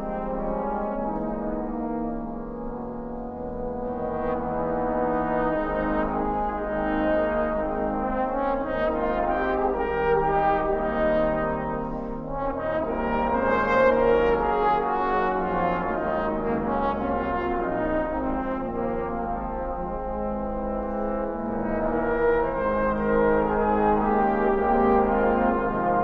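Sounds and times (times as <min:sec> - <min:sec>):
trombone choir playing chords: 0:00.0 - 0:26.0.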